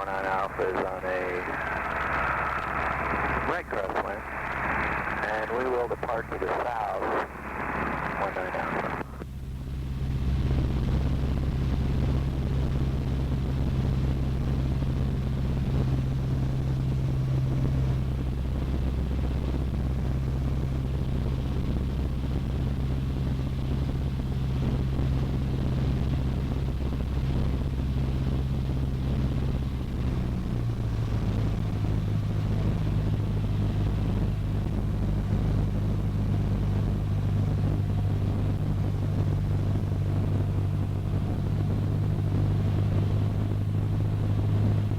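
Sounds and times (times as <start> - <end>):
light aircraft engine droning: 0.0 - 44.9.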